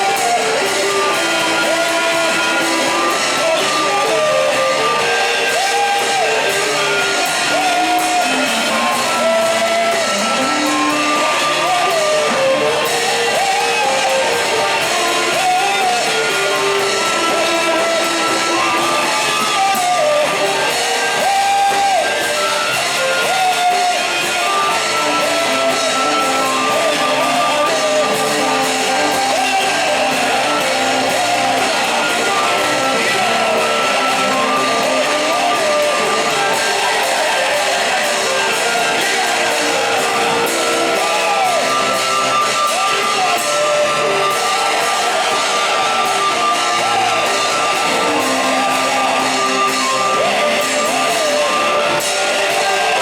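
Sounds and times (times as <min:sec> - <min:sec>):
instrumental accompaniment: 0:00.0 - 0:53.0
person singing: 0:00.0 - 0:53.0.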